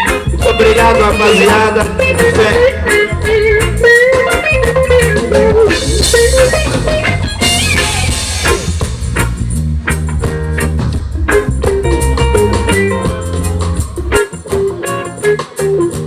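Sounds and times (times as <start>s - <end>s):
band playing: 0.0s - 16.0s
guitar wavering melody: 0.0s - 16.0s
drum hits: 0.1s - 14.2s.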